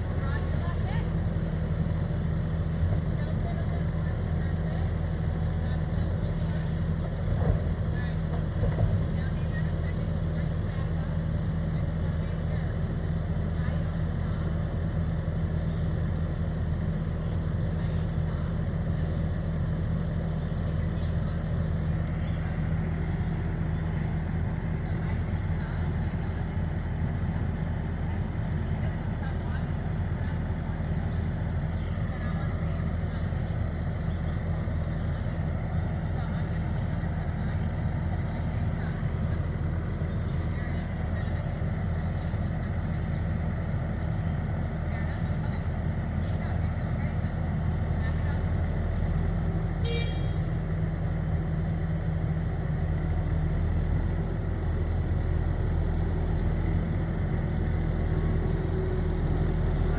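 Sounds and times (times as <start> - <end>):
loader engine running: 0.0 - 59.9.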